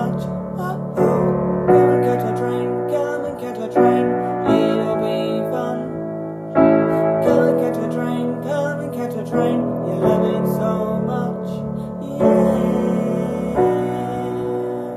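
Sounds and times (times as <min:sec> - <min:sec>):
piano chords: 0:00.0 - 0:14.9.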